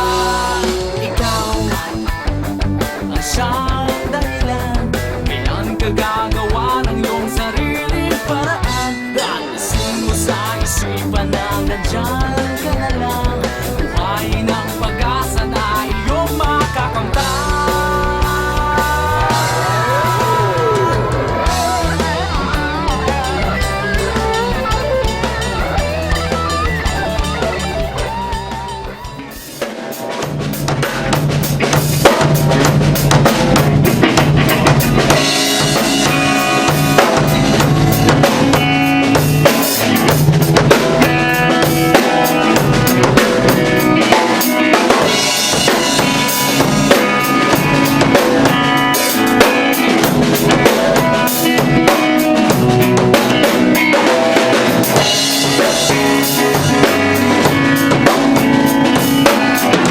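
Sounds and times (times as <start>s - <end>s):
drums: 0.0s - 59.9s
rock band playing: 0.0s - 59.9s.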